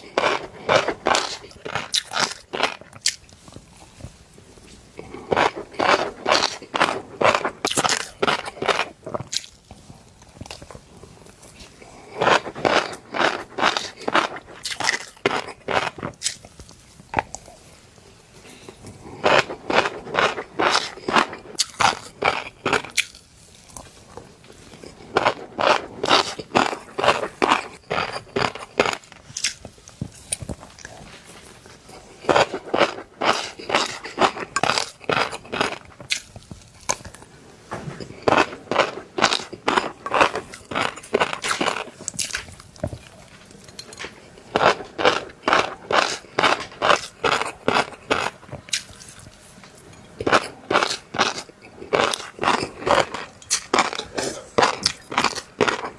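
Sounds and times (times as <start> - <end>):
fish roe crunching in chewing: 0.0 - 55.9.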